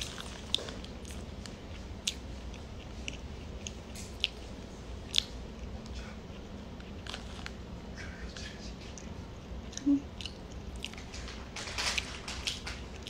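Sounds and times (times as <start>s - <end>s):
person chewing crunchy bread: 0.0s - 13.0s.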